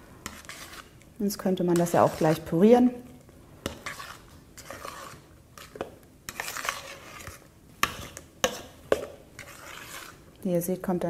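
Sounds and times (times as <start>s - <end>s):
spoon stirring thick quark: 0.2s - 10.6s.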